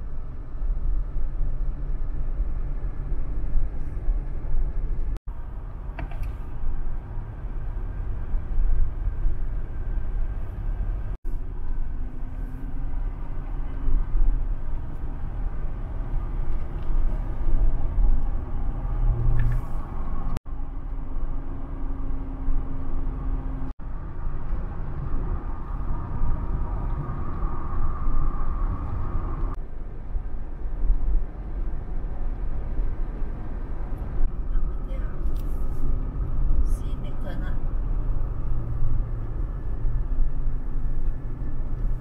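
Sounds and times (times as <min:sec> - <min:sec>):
vehicle road and engine rumble: 0:00.0 - 0:42.0.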